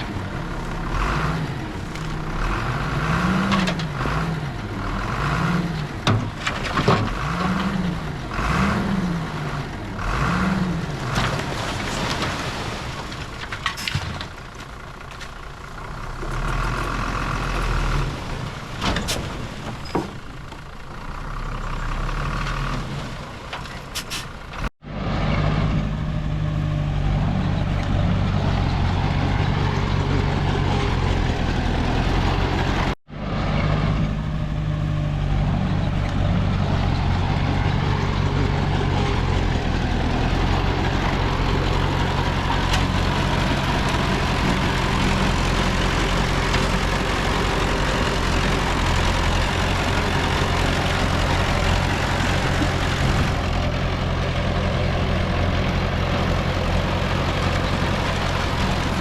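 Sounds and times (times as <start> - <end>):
heavy diesel engines working: 0.0 - 59.0.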